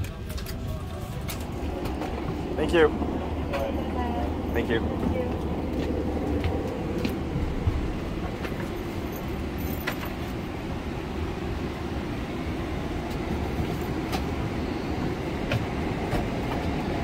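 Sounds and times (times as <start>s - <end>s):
airliner cabin ventilation rumble: 0.0s - 17.0s.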